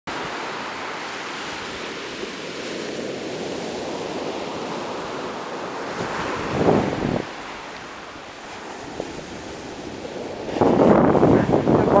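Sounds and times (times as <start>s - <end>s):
ocean surf washing ashore: 0.1s - 12.0s.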